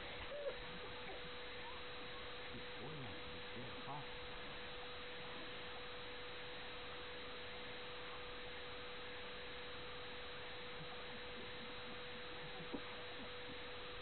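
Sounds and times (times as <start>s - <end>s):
constant pure tone: 0.0s - 14.0s
faint steady hiss: 0.0s - 14.0s.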